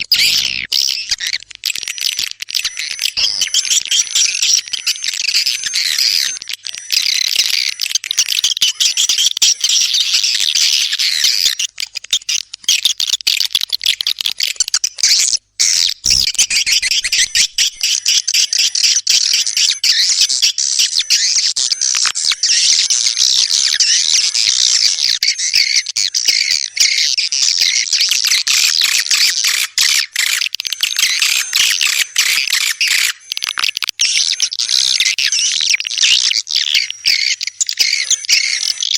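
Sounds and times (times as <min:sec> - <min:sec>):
swiftlets chirping and trilling: 0:00.0 - 0:22.8, 0:30.3 - 0:38.9.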